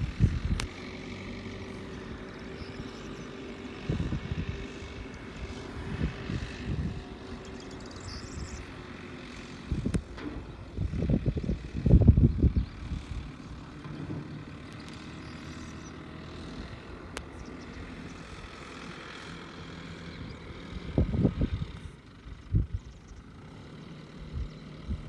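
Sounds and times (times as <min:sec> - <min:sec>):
wind buffeting microphone: 0:00.0 - 0:18.7, 0:19.4 - 0:23.2, 0:24.1 - 0:25.0
distant tractor engine running: 0:00.0 - 0:25.0.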